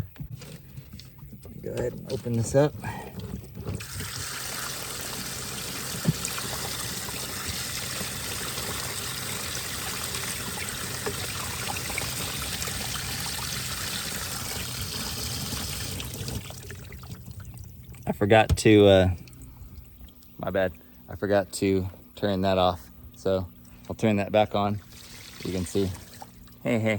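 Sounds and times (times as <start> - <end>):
water pouring: 1.0 - 21.0, 23.1 - 26.9.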